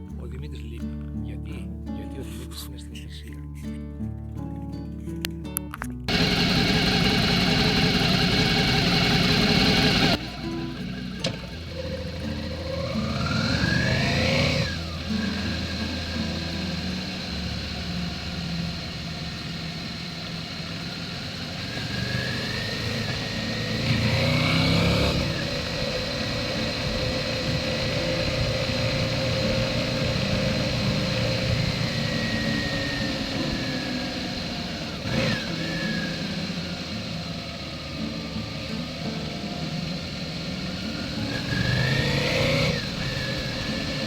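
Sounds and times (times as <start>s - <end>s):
motorcycle engine running: 6.0s - 44.0s.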